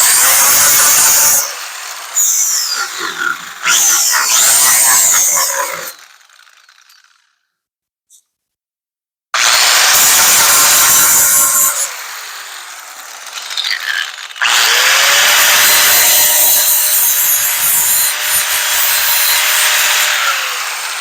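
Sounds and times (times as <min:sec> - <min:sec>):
power grinder grinding metal: 0:00.0 - 0:07.4, 0:09.4 - 0:21.0.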